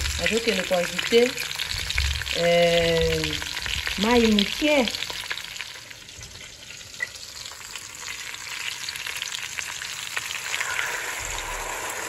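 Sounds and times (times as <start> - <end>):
vegetables sizzling in oil: 0.0 - 12.0
water pouring into pot: 0.0 - 12.0.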